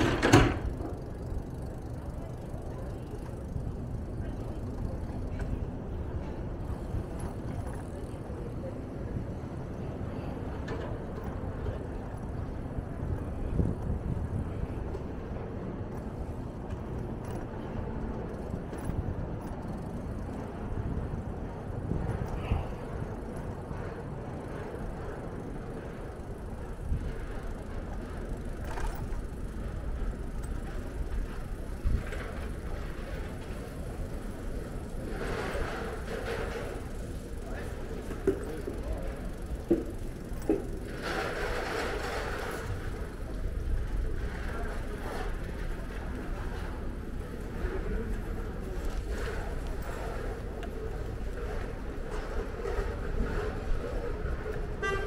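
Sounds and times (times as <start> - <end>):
bicycle riding rumble: 0.0 - 55.0
traffic: 0.0 - 55.0.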